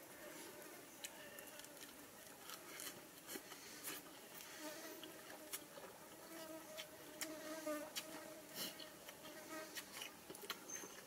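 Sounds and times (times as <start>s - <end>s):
person chewing lettuce: 1.0s - 6.2s, 6.8s - 11.0s.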